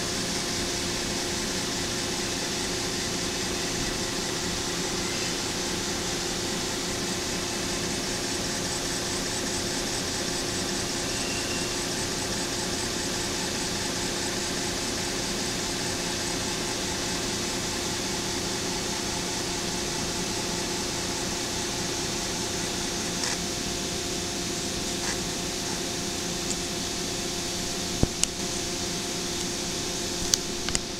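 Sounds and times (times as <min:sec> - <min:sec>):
electric actuator motor hum: 0:00.0 - 0:30.9.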